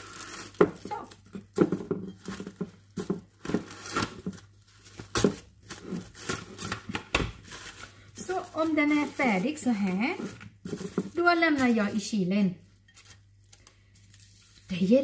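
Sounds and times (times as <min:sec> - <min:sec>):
cling film crinkling and ripping: 0:00.0 - 0:12.3, 0:12.9 - 0:15.0.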